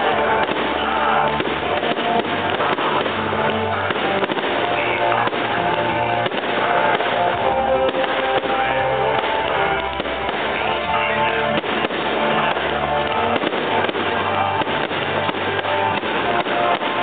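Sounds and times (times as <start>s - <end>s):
fireworks bursting: 0.0s - 17.0s
music playing: 0.0s - 17.0s.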